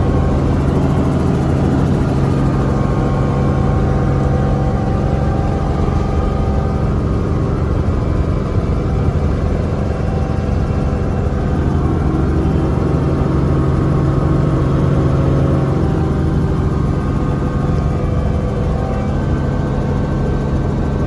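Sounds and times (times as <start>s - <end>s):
helicopter drone: 0.0s - 21.0s.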